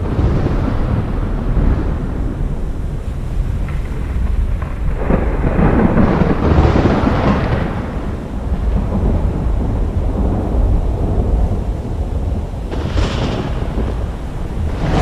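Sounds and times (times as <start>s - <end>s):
sea rumble: 0.0s - 15.0s
stormy wind: 0.0s - 15.0s
thunder peal: 0.0s - 15.0s.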